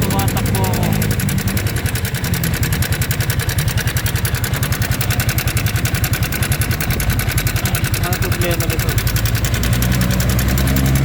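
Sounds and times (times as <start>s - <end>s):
motorcycle engine idling with knocking: 0.0s - 11.0s.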